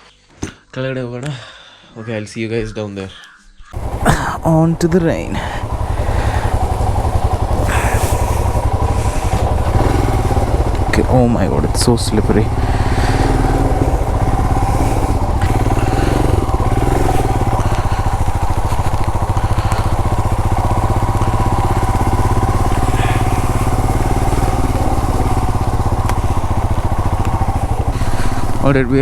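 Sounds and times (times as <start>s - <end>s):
motorcycle engine thumping: 3.8s - 29.0s.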